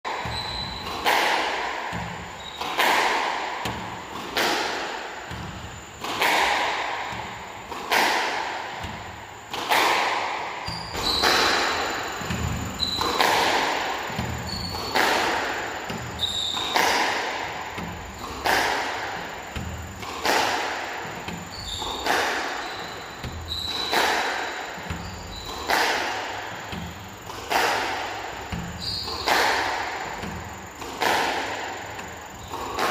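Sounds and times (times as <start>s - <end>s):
squash ball struck with racket: 0.1s - 32.9s.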